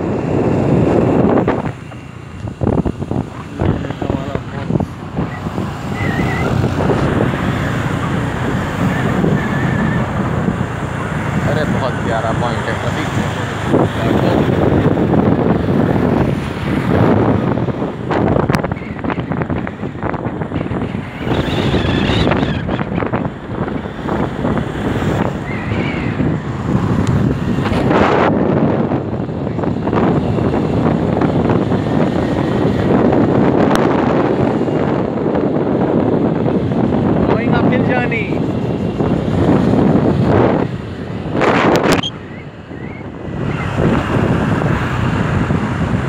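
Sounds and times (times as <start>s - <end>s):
motorbike engine and tyre noise: 0.0s - 46.0s
road noise: 0.0s - 46.0s
wind buffeting microphone: 0.0s - 46.0s.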